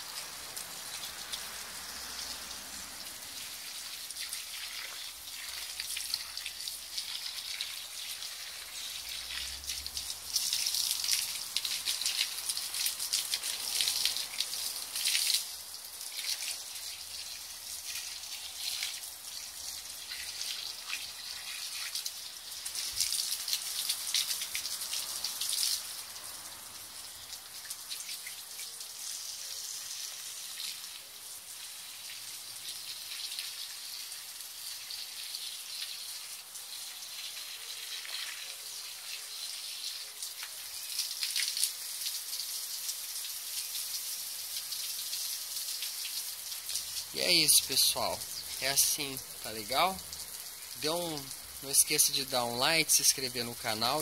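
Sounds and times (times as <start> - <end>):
hose water splashing on soil: 0.0 - 54.0.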